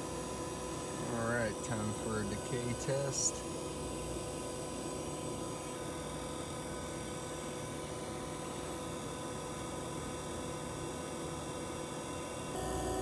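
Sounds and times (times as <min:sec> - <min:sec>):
steady hum: 0:00.0 - 0:10.1, 0:11.8 - 0:13.0.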